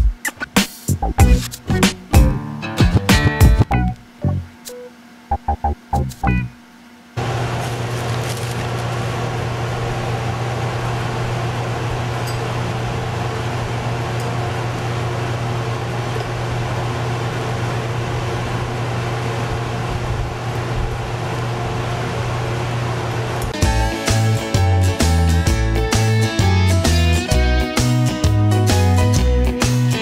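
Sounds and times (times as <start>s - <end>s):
cooling fan running: 0.0s - 30.0s
fridge compressor humming: 0.9s - 30.0s.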